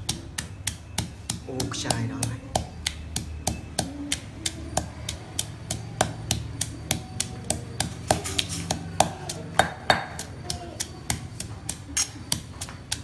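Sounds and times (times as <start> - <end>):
stone pestle pounding in mortar: 0.0 - 13.0.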